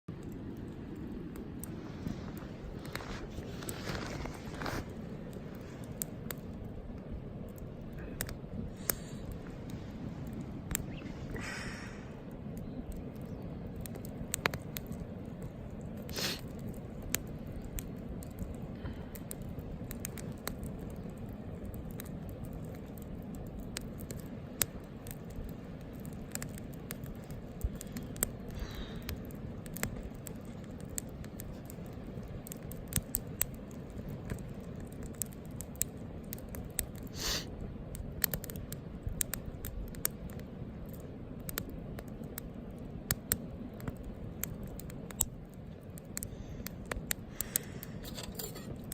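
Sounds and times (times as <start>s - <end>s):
low rumble of burning: 0.0s - 48.9s
campfire crackling and popping: 0.1s - 48.9s.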